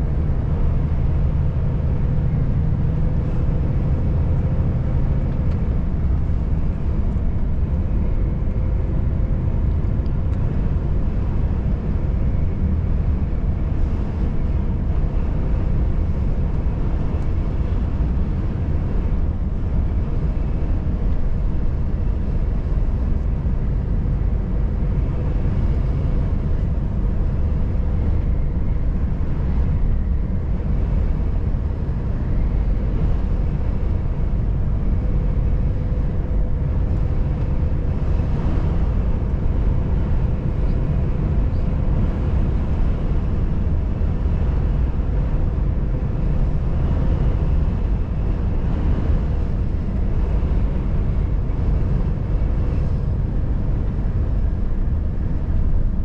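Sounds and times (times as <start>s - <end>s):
faint steady whine: 0.0s - 56.0s
truck engine and road rumble: 0.0s - 56.0s.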